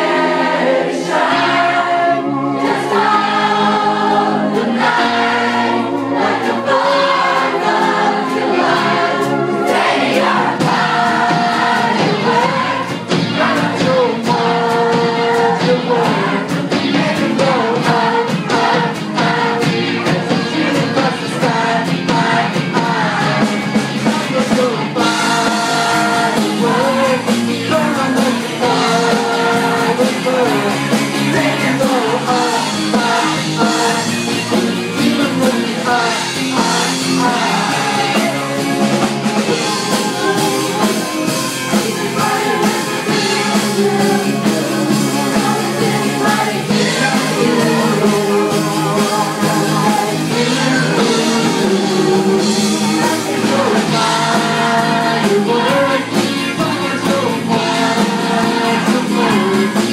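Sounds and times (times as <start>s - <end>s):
drum kit: 0.0s - 59.9s
electric guitars: 0.0s - 59.9s
person singing into a microphone: 0.0s - 59.9s.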